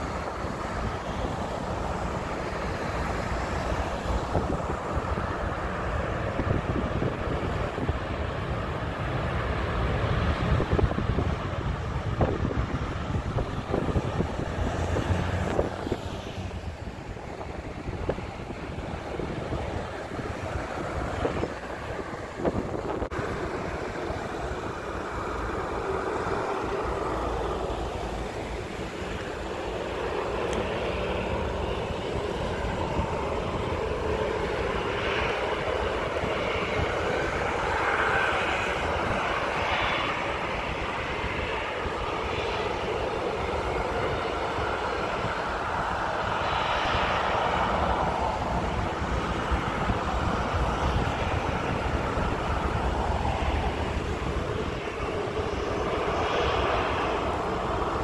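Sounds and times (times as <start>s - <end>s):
distant jet engines: 0.0s - 58.0s
wind rumbling on microphone: 0.0s - 58.0s.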